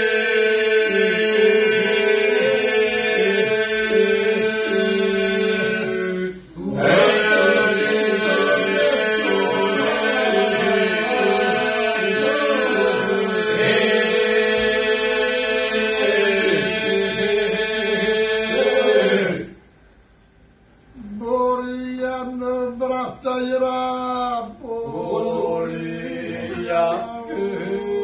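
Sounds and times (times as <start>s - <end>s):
men singing unaccompanied: 0.0s - 19.5s, 21.2s - 28.0s.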